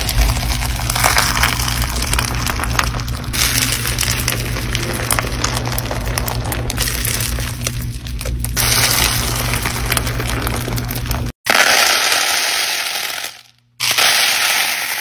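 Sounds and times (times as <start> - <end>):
slime popping and crackling: 0.0 - 15.0.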